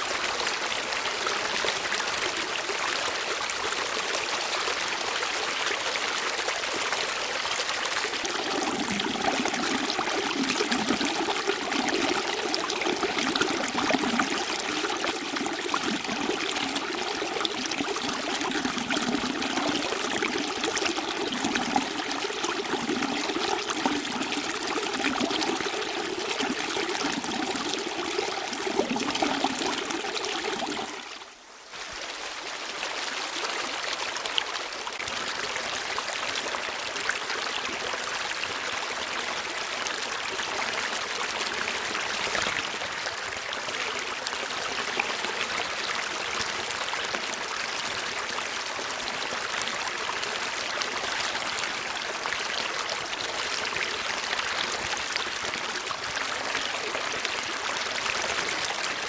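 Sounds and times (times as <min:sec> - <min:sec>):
stream trickling and gurgling: 0:00.0 - 0:59.0.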